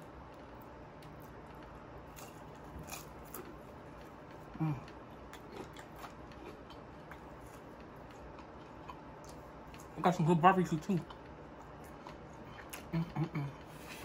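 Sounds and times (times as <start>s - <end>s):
person chewing fries: 0.0s - 14.0s.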